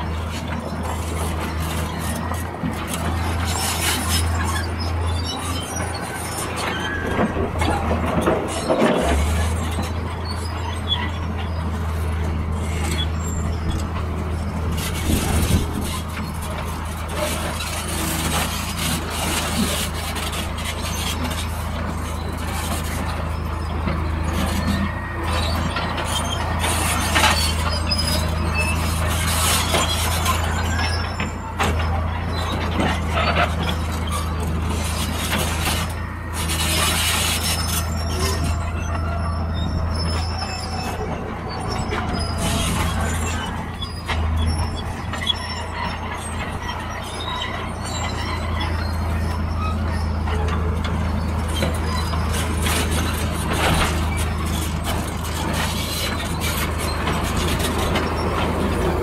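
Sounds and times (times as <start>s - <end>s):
excavator diesel engines droning: 0.0s - 59.0s
metal squeals: 0.1s - 59.0s.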